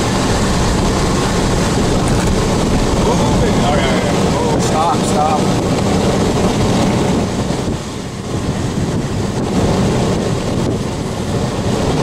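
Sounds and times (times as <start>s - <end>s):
vehicle driving rumble: 0.0s - 12.0s
wind blowing across microphone: 0.0s - 12.0s.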